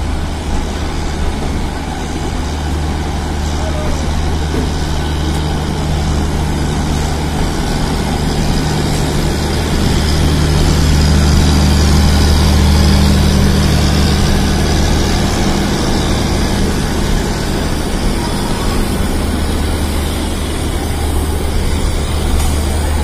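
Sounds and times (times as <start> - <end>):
diesel locomotive engine drone: 0.0 - 23.0
moving train rumble: 0.0 - 23.0.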